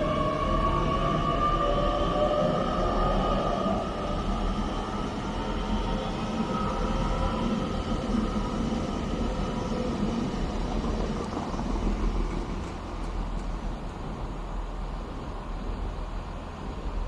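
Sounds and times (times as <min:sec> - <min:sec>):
high train whine: 0:00.0 - 0:17.0
train droning: 0:00.0 - 0:17.0.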